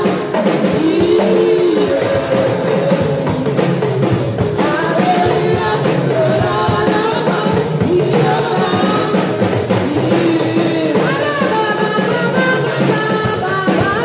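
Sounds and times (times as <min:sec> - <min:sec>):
drums: 0:00.0 - 0:14.0
people singing: 0:00.0 - 0:14.0.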